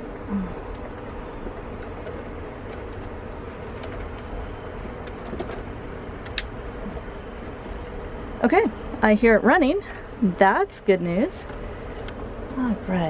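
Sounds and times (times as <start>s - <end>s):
compressor humming: 0.0s - 13.0s.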